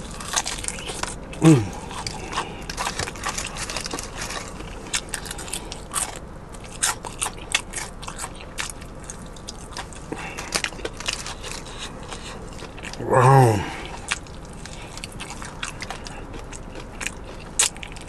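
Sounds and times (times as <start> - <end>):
crunchy chewing of fried chicken: 0.0 - 18.0.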